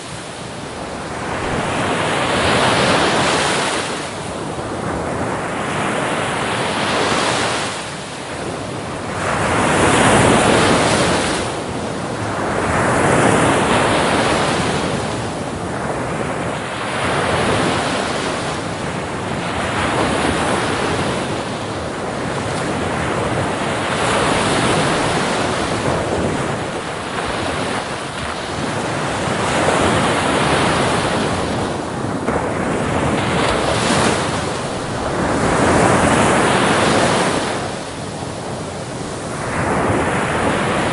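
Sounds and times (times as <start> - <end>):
small waves breaking on shore: 0.0 - 40.9.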